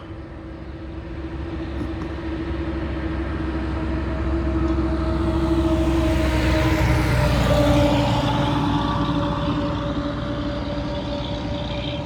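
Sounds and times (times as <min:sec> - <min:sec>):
heavy truck approaching: 0:00.0 - 0:12.0.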